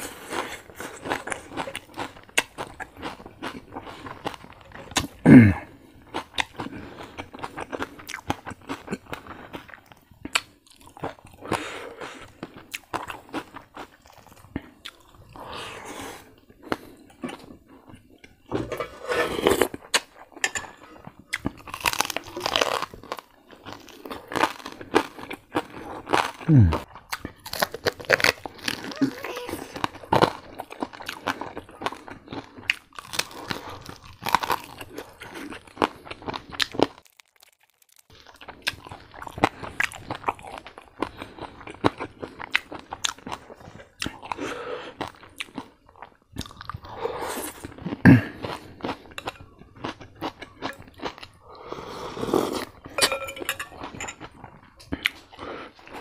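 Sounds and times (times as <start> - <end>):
crunching and chewing crispy pork: 0.0 - 53.0, 53.8 - 56.0.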